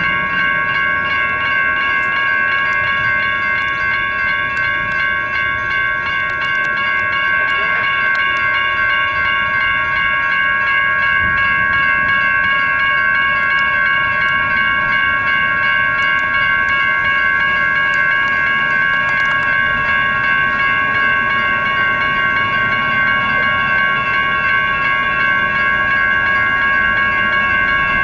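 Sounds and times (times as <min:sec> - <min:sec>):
railroad crossing bells ringing: 0:00.0 - 0:28.0.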